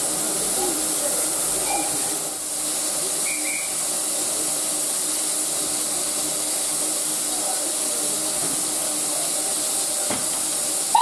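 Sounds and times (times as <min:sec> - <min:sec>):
steam venting hiss: 0:00.0 - 0:11.0.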